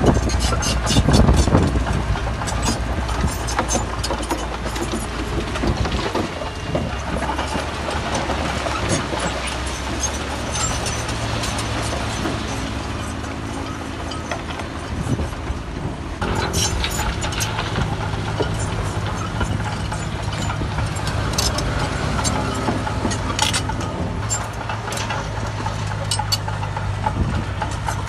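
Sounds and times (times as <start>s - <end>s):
diesel engine drone: 0.0s - 28.0s
machinery clanking and rattling: 0.0s - 28.0s.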